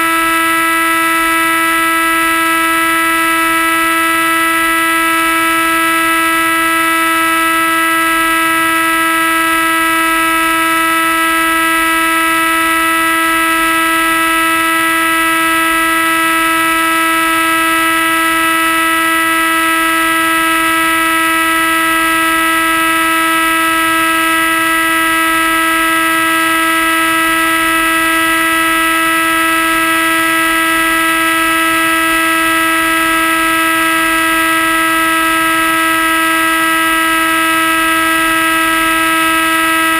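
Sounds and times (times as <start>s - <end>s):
propeller motor whine: 0.0s - 39.9s.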